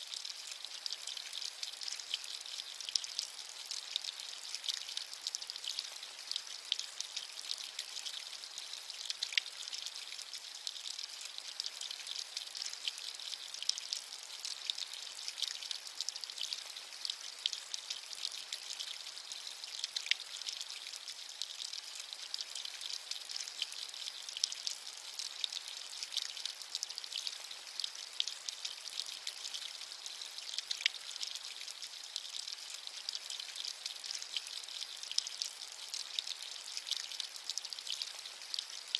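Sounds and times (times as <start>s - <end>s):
steady rain with crisp drops: 0.0s - 38.9s.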